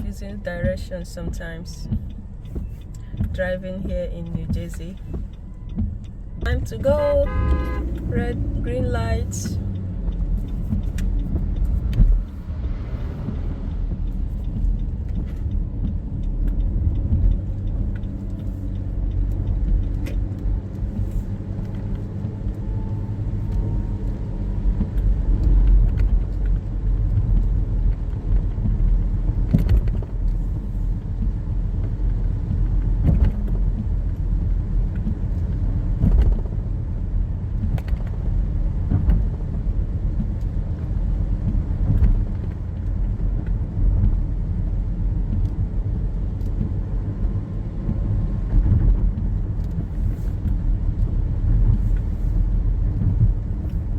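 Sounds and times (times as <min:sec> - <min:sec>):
engine and tyres rumbling: 0:00.0 - 0:53.9.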